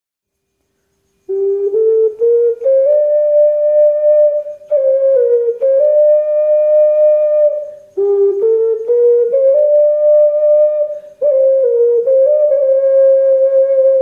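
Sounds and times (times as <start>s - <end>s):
ocarina playing slow melody: 1.2s - 14.0s.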